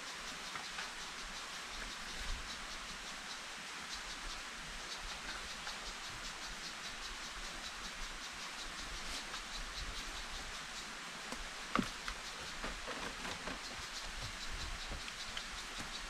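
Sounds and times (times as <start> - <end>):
forest background hiss: 0.0 - 16.0
insects chirping: 0.0 - 16.0.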